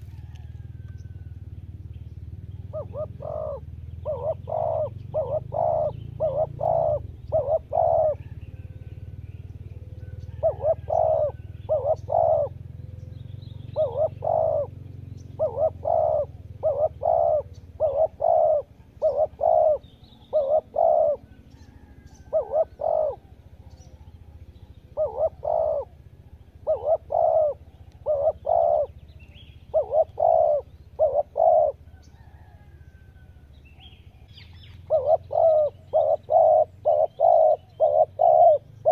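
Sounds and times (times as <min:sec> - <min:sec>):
dove cooing: 0:00.0 - 0:38.9
low steady rumble: 0:00.0 - 0:38.9
small birds chirping: 0:00.0 - 0:38.9.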